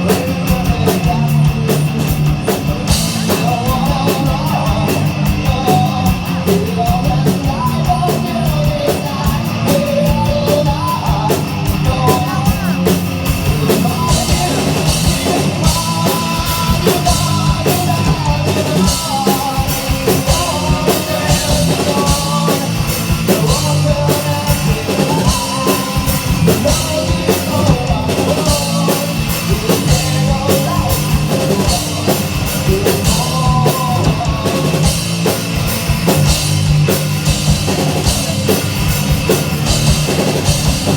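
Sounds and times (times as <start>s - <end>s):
distorted guitars: 0.0s - 40.9s
drum kit: 0.0s - 40.9s
loud rock music: 0.0s - 40.9s
person singing: 0.0s - 40.9s.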